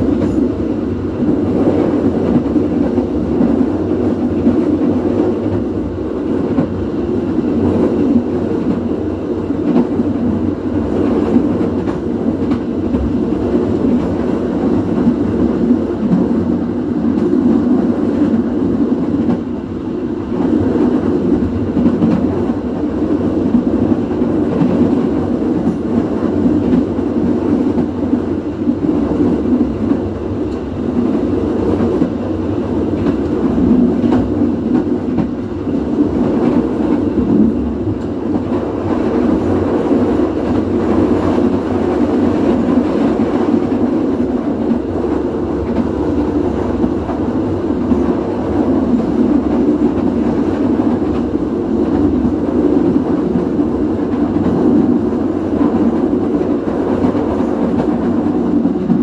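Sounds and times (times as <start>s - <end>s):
train rumbling along track: 0.0s - 59.0s.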